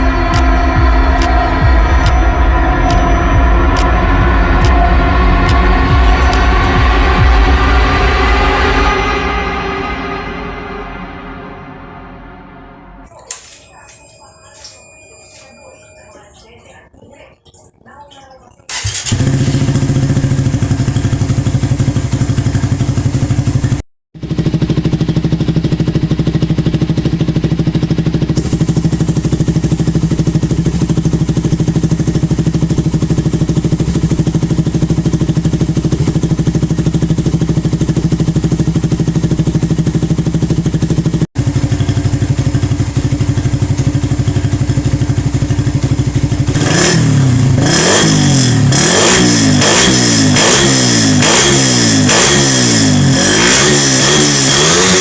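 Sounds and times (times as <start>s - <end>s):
motorcycle engine idling and revving: 0.0s - 12.0s, 18.7s - 55.0s.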